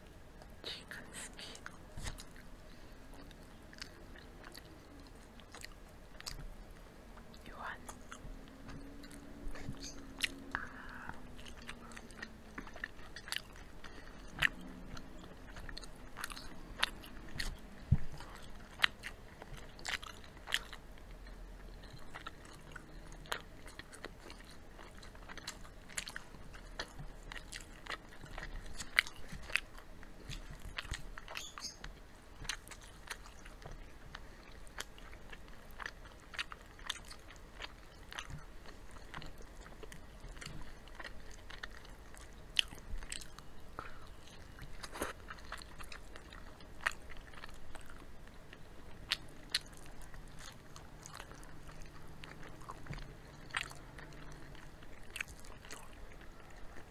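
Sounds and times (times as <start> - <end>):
people chewing crispy chicken: 0.0 - 56.9.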